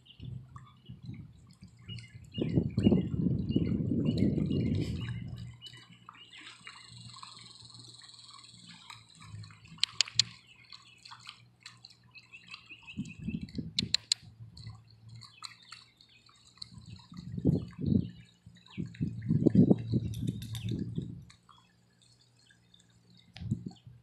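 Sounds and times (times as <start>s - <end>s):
dog wading through shallow water: 0.0s - 24.0s.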